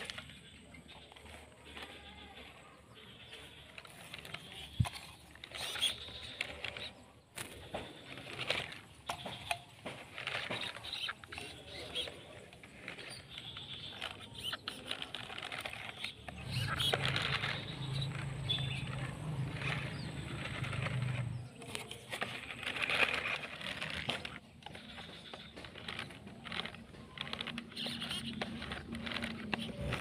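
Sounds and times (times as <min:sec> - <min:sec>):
tyres crackling over dirt: 0:00.0 - 0:30.0
small electric motor humming: 0:03.1 - 0:30.0.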